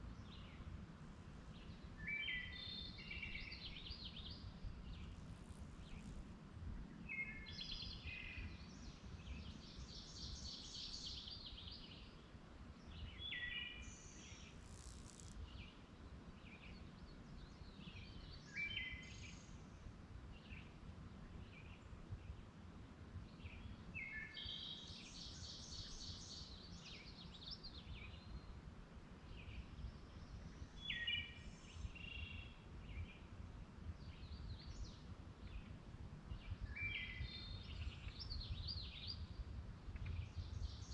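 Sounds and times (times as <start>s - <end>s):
songbirds singing faintly: 0.0s - 40.9s.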